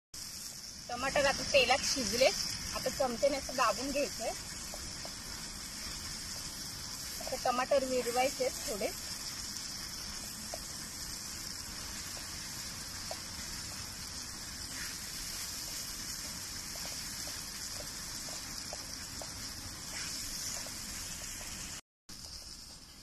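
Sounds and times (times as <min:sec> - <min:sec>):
sauce sizzling in oil: 0:00.2 - 0:23.0
steel spatula ticks: 0:00.4 - 0:23.0.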